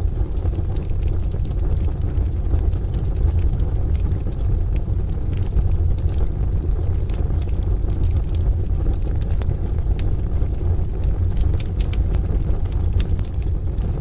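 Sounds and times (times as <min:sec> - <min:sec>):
rain: 0:00.0 - 0:14.0
wood stove fire crackling: 0:00.0 - 0:14.0.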